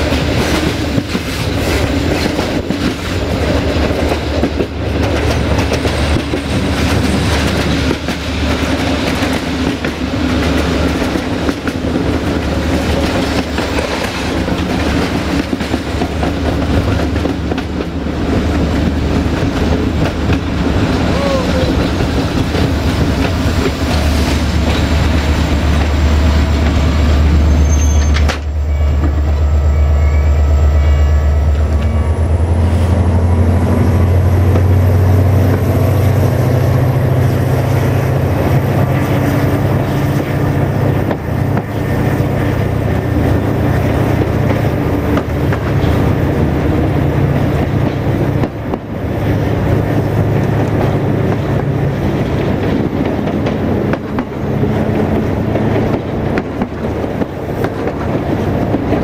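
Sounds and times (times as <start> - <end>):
wheels rattling over rails: 0.0 - 29.5, 30.8 - 59.0
diesel train engine drone: 0.0 - 59.0.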